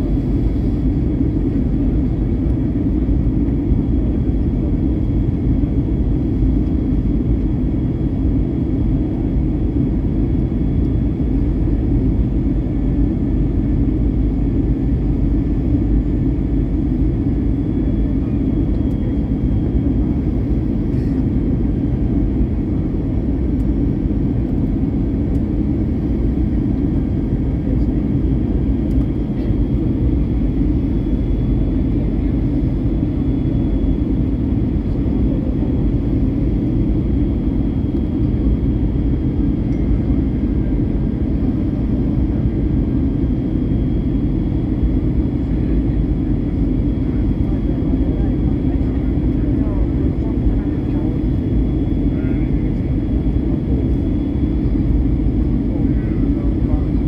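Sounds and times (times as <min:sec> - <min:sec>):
engine and airflow rumble: 0:00.0 - 0:57.0.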